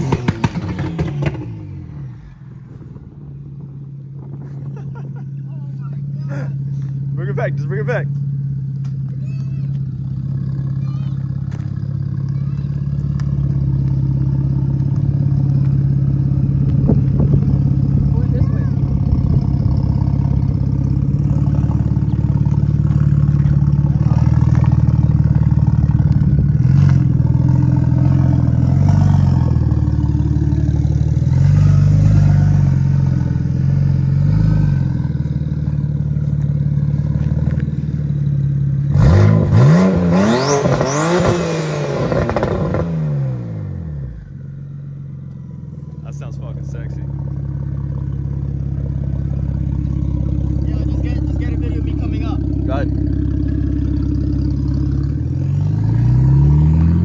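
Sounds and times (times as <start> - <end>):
car engine revving: 0.0 - 4.3, 5.9 - 57.0.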